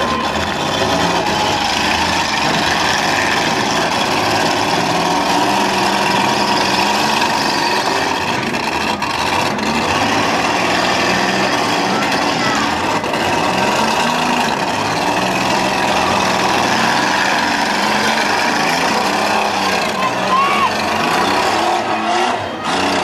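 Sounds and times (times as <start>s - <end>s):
car engines running: 0.0s - 23.0s.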